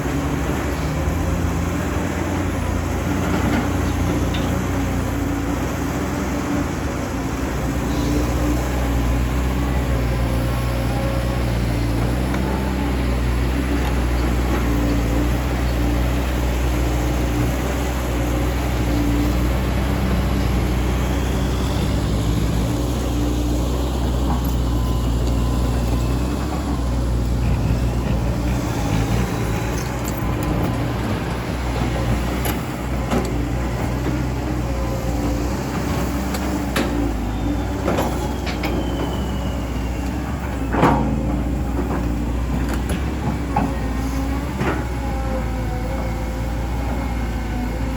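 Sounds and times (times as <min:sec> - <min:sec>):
excavator diesel engine droning: 0:00.0 - 0:47.9.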